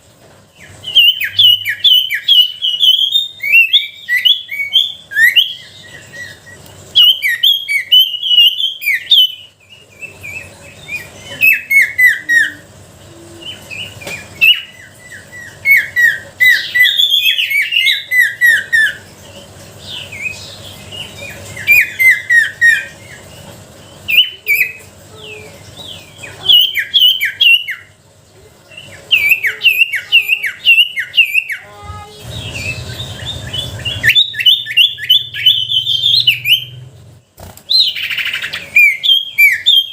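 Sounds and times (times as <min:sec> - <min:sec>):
songbird chirping rapidly: 0:00.6 - 0:12.8, 0:13.5 - 0:28.0, 0:28.7 - 0:36.9.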